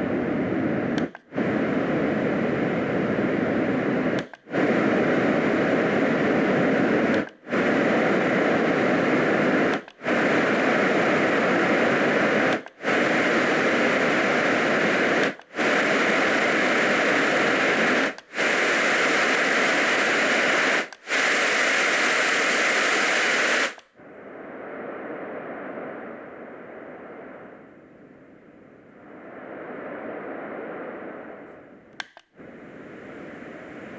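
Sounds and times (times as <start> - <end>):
white noise machine hiss: 0.0 - 33.9.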